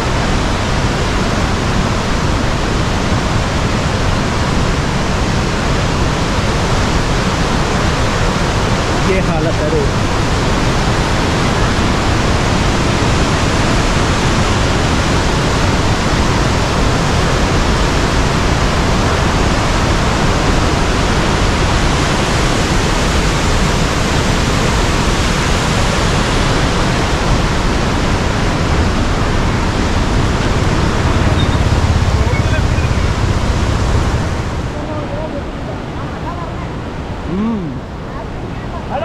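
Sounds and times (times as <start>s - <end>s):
river rushing over boulders: 0.0s - 39.0s.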